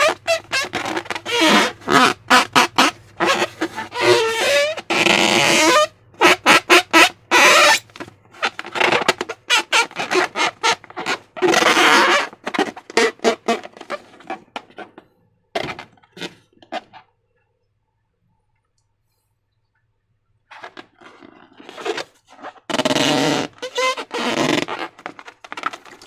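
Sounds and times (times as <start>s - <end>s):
rubber balloons squeaking: 0.0s - 17.1s, 20.5s - 26.0s.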